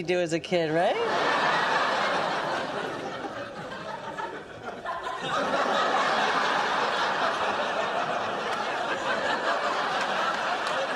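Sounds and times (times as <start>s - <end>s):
studio audience laughing: 0.9s - 10.9s.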